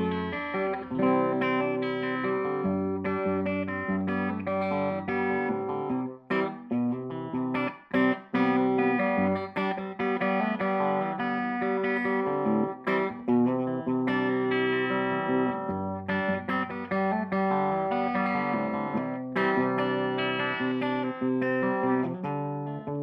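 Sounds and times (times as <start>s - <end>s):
electric guitar strummed chords: 0.0s - 23.0s.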